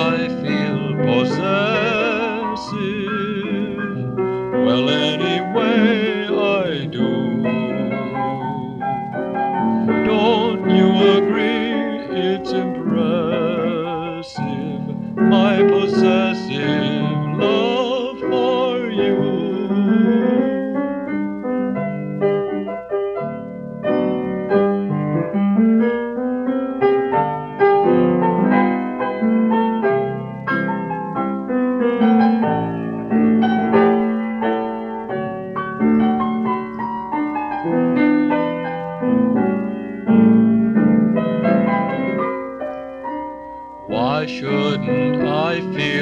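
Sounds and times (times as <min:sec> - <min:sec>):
solo piano playing: 0:00.0 - 0:46.0.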